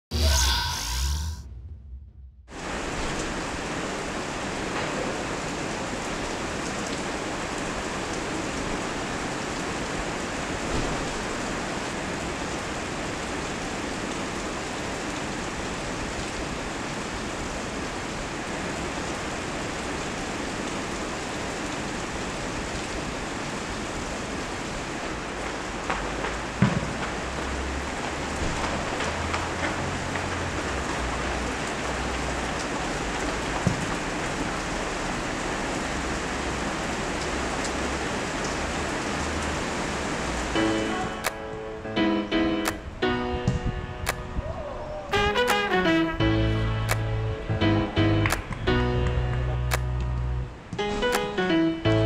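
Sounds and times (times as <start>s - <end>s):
rain falling and hissing: 2.5s - 52.0s.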